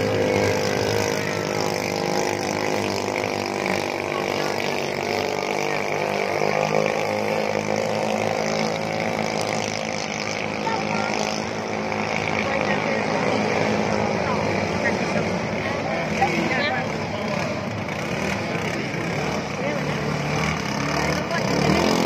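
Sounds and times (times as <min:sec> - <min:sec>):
speedboat engines droning: 0:00.0 - 0:22.0.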